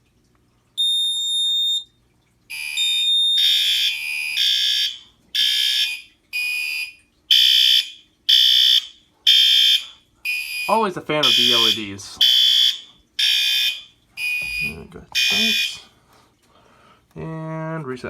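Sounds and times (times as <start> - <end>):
fire alarm horn blasts: 0.8 - 1.9, 2.5 - 15.9.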